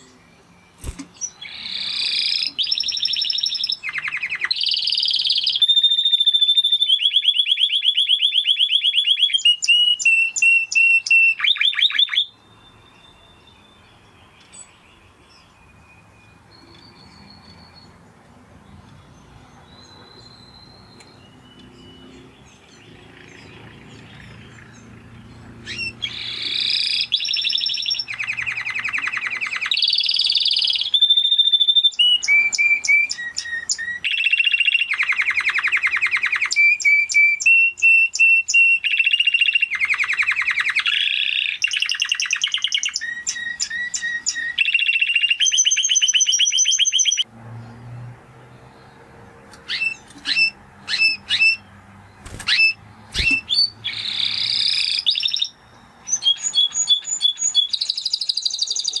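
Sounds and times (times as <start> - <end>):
canary singing: 0.0 - 47.3, 49.5 - 59.0.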